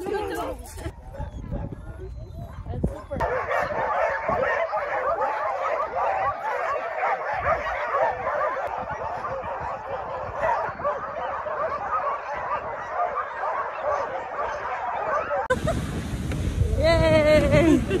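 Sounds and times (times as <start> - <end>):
sled dogs yipping and barking: 0.0 - 15.6.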